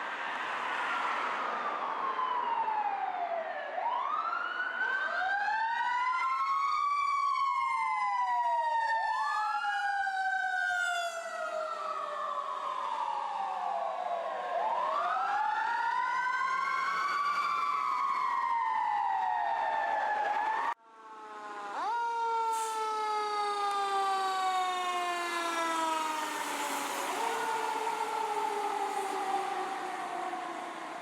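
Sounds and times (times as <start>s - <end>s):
sirens wailing: 0.2s - 31.0s.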